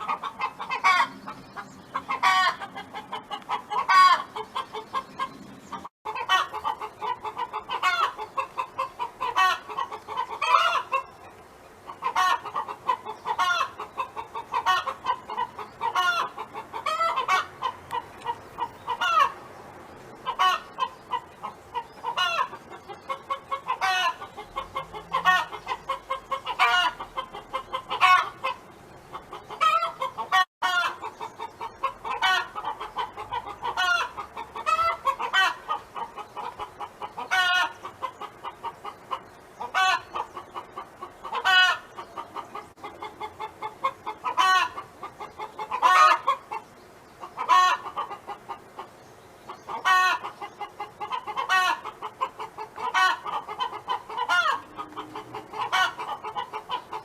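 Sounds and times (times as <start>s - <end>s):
hen clucking: 0.0s - 19.6s, 20.2s - 57.0s.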